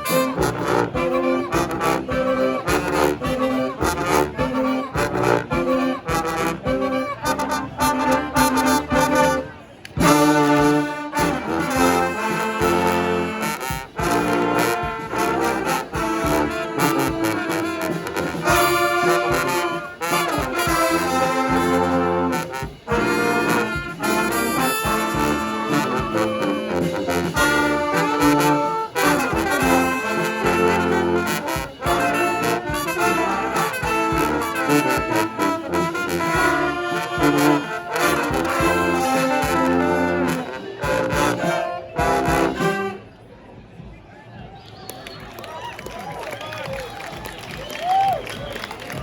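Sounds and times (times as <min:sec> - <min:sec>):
brass band playing: 0:00.0 - 0:43.3.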